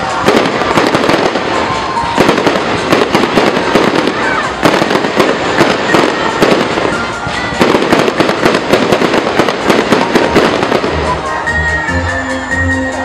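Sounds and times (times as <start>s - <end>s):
fireworks crackling and banging: 0.0s - 11.6s.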